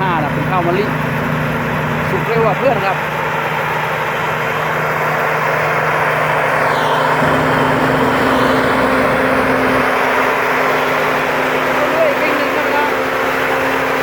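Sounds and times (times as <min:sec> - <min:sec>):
dense mechanical noise: 0:00.0 - 0:14.0
harvester engine drone: 0:00.0 - 0:14.0
faint high whine: 0:01.8 - 0:14.0.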